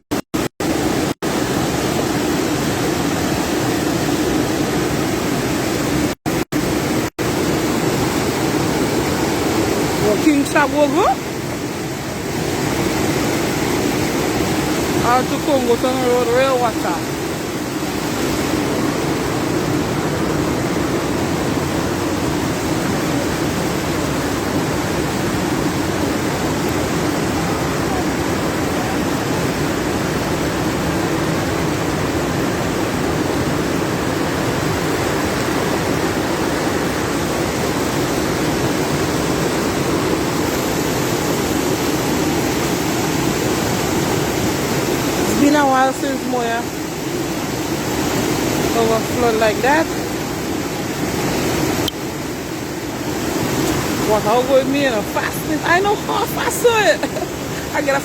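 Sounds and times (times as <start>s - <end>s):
floodwater rushing: 0.0s - 58.0s.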